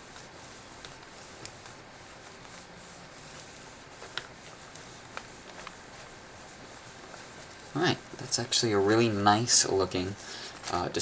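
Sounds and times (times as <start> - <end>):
cloth rubbing a screen: 0.0 - 11.0.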